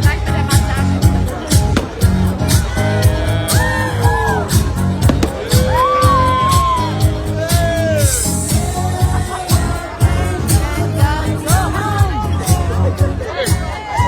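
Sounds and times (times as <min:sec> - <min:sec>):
steady drum beat: 0:00.0 - 0:13.2
pop music: 0:00.0 - 0:14.0.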